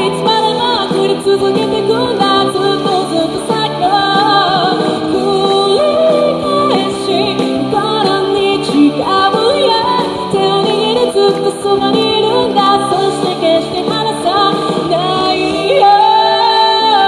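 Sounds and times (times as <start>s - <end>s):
accompanying music: 0.0s - 17.0s
woman singing with vibrato: 0.0s - 17.0s.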